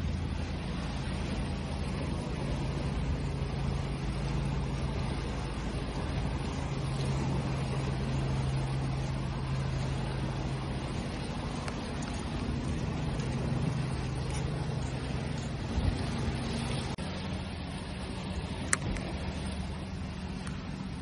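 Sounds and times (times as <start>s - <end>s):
ocean waves washing: 0.0s - 21.0s
steady low hum: 0.0s - 21.0s.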